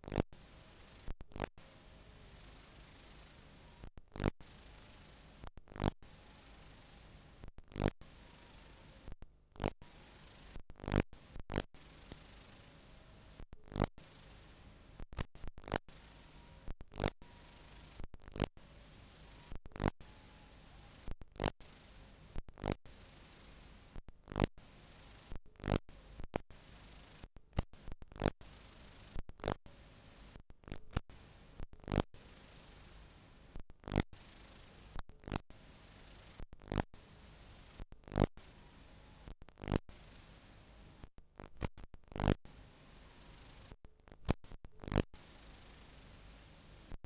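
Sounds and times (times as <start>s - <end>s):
videotape hiss: 0.0s - 47.0s.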